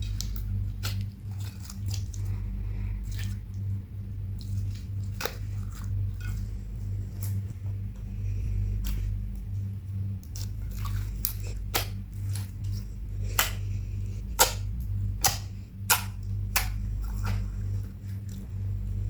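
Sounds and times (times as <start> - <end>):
slime squished by hand: 0.0 - 3.7, 4.4 - 7.6, 8.7 - 18.5
low steady hum: 0.0 - 19.0.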